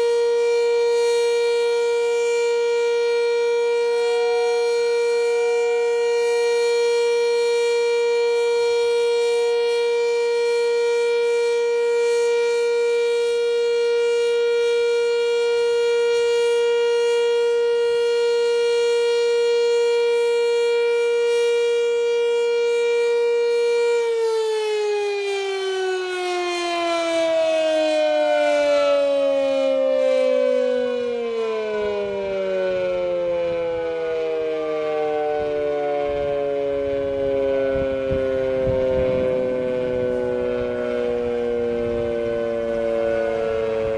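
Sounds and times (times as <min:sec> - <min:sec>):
warning siren: 0:00.0 - 0:43.9.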